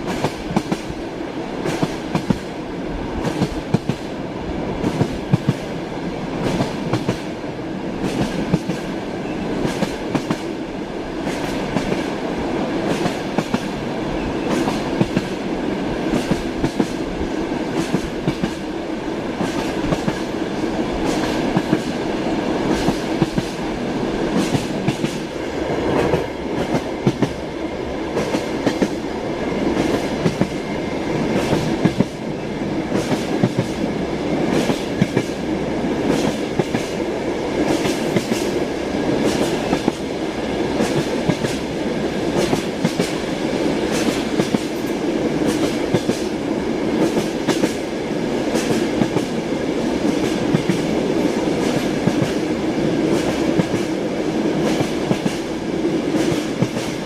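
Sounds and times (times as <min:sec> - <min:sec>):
train carriage rumble: 0:00.0 - 0:57.0.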